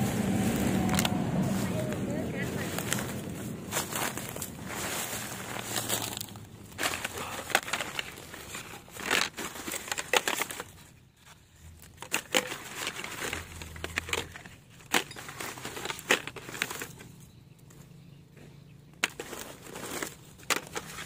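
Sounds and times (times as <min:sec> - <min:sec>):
plastic bags and leaves rustling: 0:00.0 - 0:17.8, 0:19.0 - 0:21.0.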